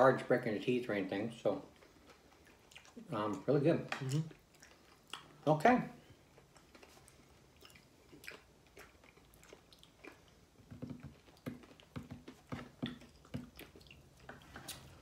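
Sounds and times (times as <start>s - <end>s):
chewing crunchy snack: 1.6s - 5.4s, 6.2s - 15.0s.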